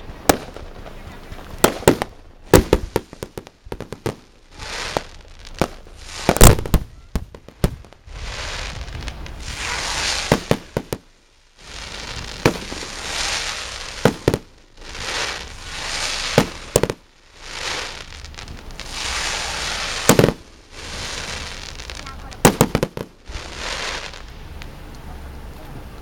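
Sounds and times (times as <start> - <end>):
firework bangs: 0.0 - 25.2
firework shells rising hiss: 0.0 - 25.7.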